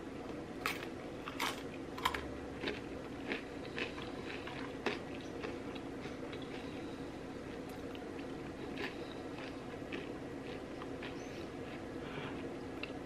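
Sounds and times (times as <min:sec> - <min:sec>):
person crunching and chewing: 0:00.6 - 0:06.9, 0:07.5 - 0:13.0.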